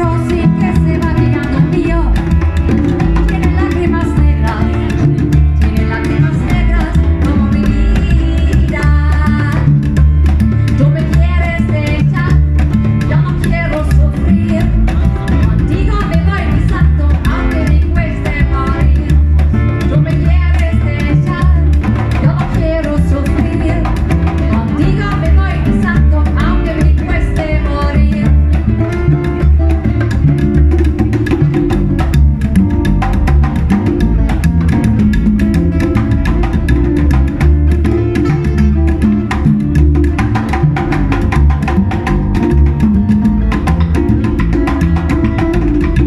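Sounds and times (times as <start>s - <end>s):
bass: 0.0s - 46.0s
guitar: 0.0s - 46.0s
hand percussion and drums: 0.0s - 46.0s
latin band playing: 0.0s - 46.0s.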